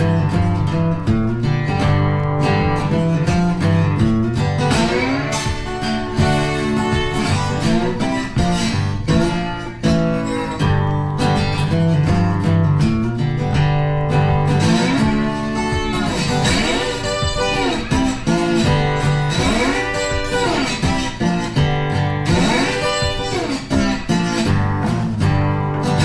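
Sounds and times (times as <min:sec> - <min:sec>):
guitar-led background music: 0:00.0 - 0:26.0.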